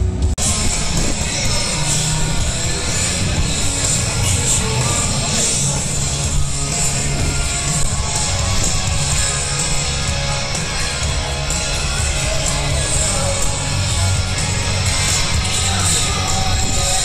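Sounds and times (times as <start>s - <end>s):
live heavy metal music: 0.0s - 17.0s
loud electric guitars: 0.0s - 17.0s.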